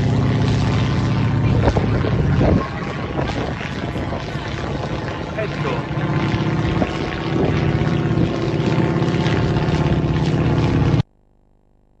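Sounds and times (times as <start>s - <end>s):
propeller aircraft engine: 0.0s - 11.1s.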